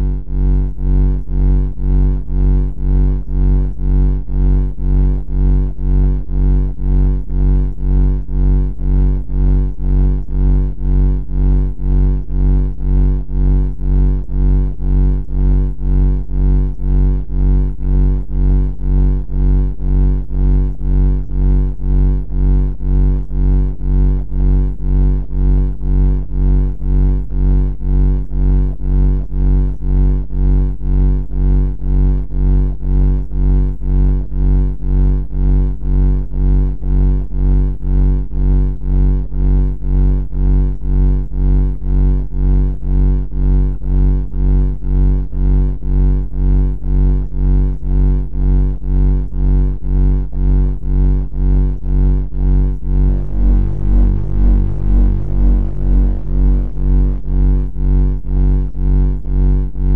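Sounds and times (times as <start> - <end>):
low buzzy pulsing drone: 0.0 - 59.9.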